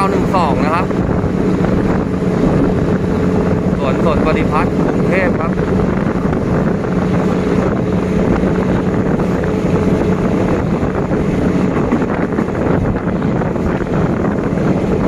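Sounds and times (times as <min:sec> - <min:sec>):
wind buffeting microphone: 0:00.0 - 0:15.0
train wheels rumbling on track: 0:00.8 - 0:15.0.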